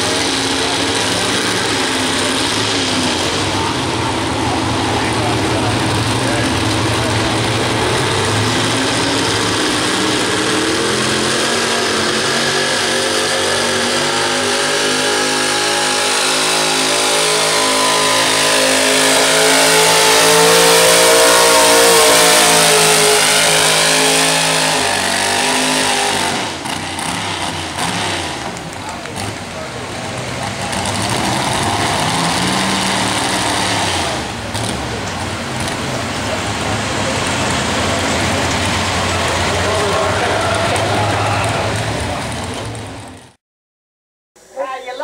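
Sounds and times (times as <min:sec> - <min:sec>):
truck engine running hard: 0:00.0 - 0:43.4.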